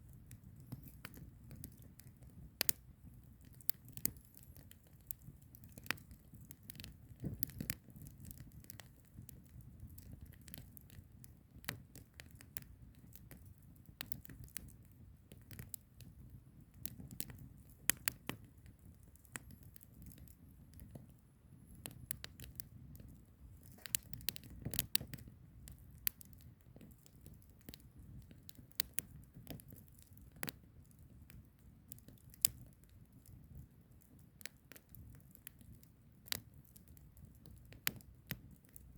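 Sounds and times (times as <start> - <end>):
flames rumbling: 0.0 - 31.3
firewood crackling and popping: 0.0 - 38.9.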